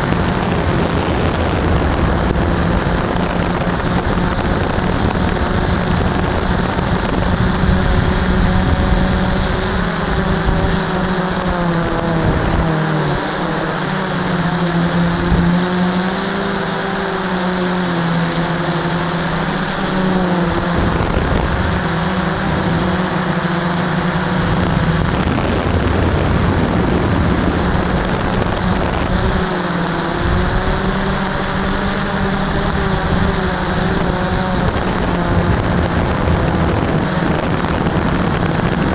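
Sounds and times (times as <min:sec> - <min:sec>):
model plane motor and propeller: 0:00.0 - 0:38.9.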